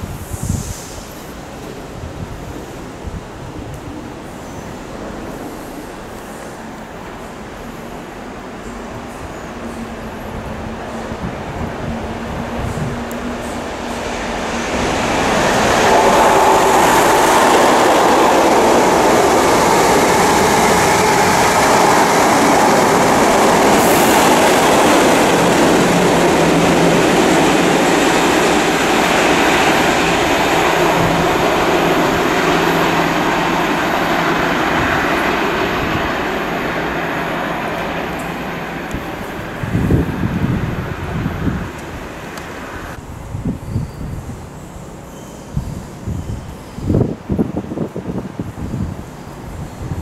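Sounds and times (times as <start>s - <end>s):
train wheel and rail noise: 0.0s - 50.0s.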